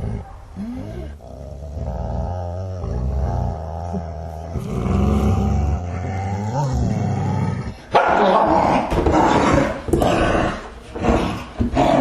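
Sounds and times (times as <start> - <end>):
dogs snarling and growling: 0.0 - 12.0.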